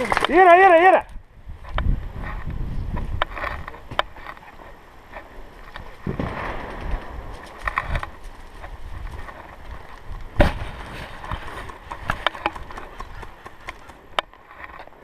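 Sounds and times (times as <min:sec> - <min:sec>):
footsteps: 0:01.6 - 0:15.0.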